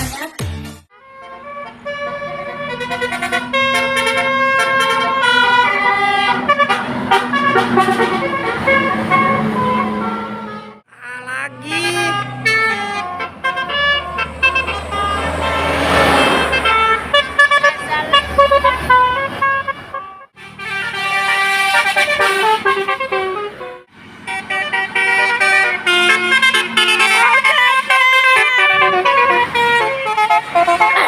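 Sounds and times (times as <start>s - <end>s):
multi-tone bus horn melody: 0.8s - 31.0s.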